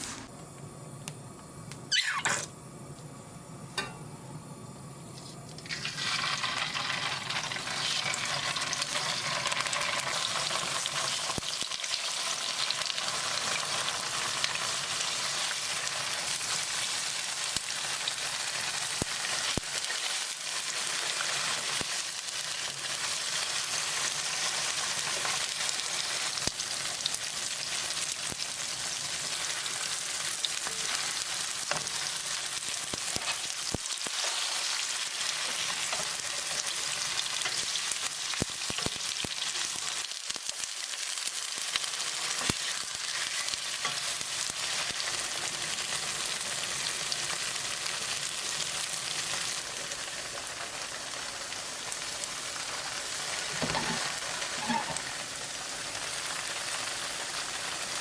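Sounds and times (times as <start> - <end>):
tofu sizzling in a pan: 5.6 - 58.0.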